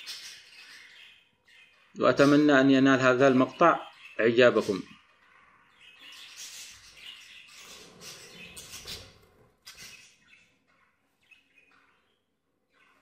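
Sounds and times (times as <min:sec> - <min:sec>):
budgerigars chattering and chirping: 0:00.0 - 0:13.0.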